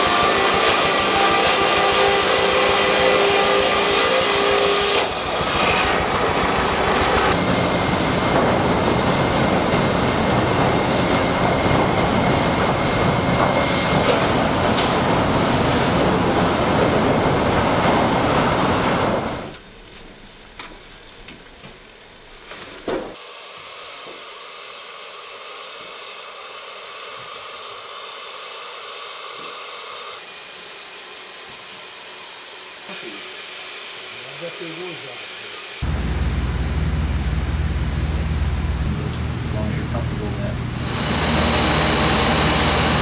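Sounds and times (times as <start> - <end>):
circular saw cutting log: 0.0 - 19.7, 23.1 - 35.9, 40.8 - 43.0
sawmill machinery noise: 0.0 - 43.0.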